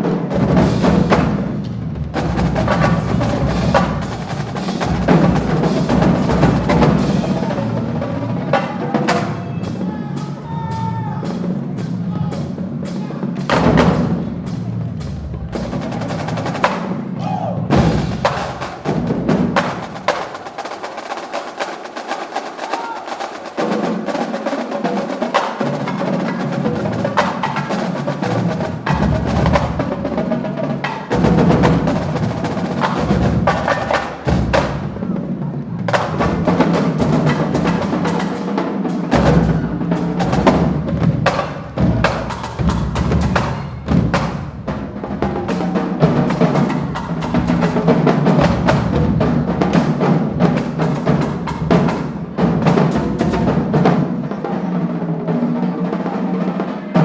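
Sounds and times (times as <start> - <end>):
snare drum strokes: 0.0 - 55.0.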